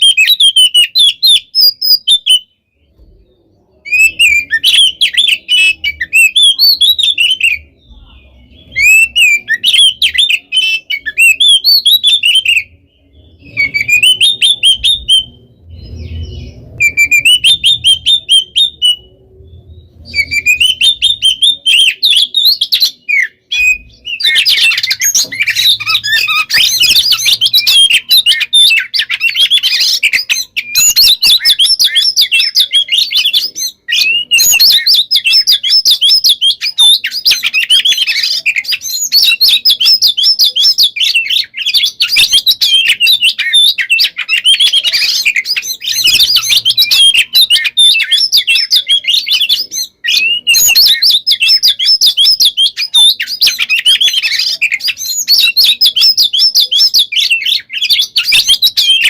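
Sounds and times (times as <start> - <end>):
bird singing whistled song: 0.0 - 59.0.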